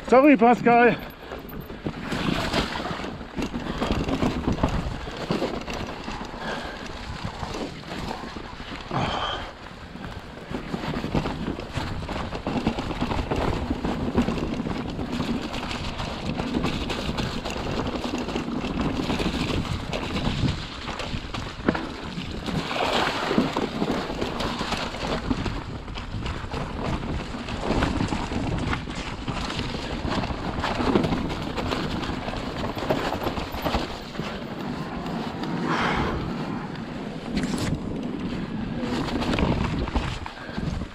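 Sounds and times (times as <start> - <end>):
bike knocking and rattling: 0.0 - 40.9
tyres on loose ground: 0.0 - 40.9
wind buffeting microphone: 0.7 - 40.9.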